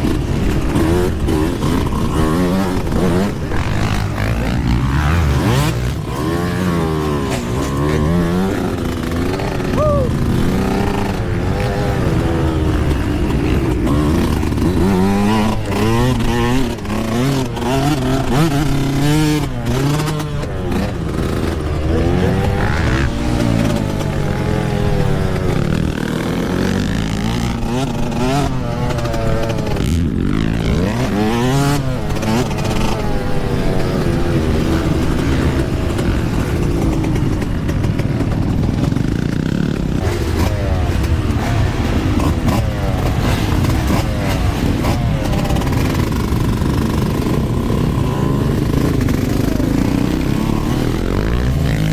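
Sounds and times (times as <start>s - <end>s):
motocross engine revving: 0.0s - 51.9s.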